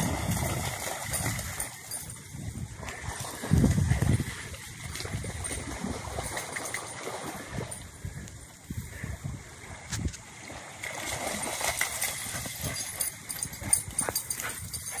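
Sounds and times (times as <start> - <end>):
small waves lapping at shore: 0.0 - 13.7.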